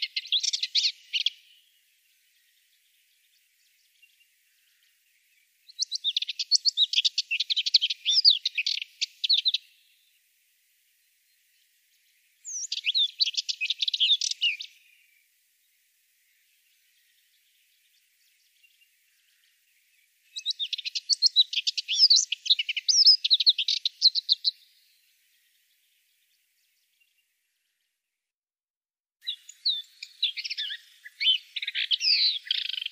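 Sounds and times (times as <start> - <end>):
warbler singing: 0.0 - 10.2, 11.0 - 28.0, 29.2 - 32.9.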